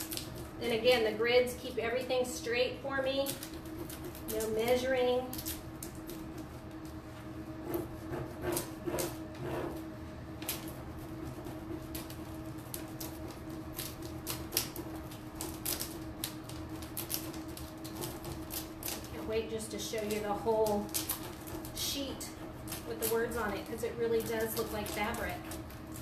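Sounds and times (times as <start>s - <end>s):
crackling plastic sheet: 0.0s - 1.0s, 3.0s - 26.0s
steady hum: 0.0s - 26.0s.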